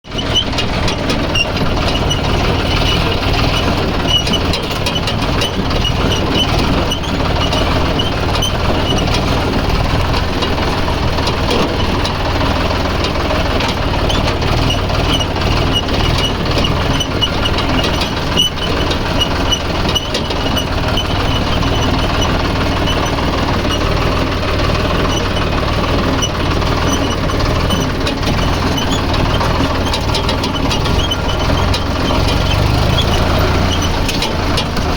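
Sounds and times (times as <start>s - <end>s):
engine idling with ticking: 0.0s - 34.9s.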